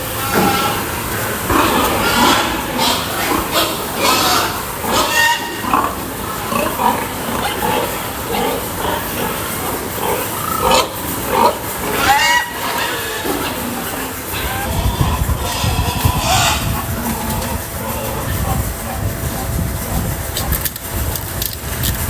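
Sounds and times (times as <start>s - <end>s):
pigs grunting and squealing: 0.0s - 21.4s.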